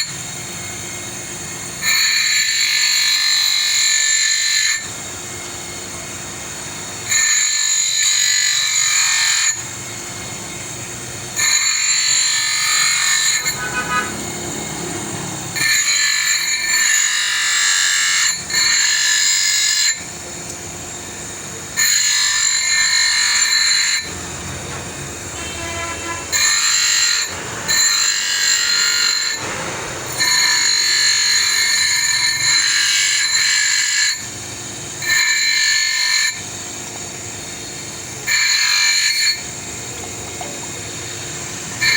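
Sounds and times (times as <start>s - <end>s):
power tool whining: 0.0s - 41.9s.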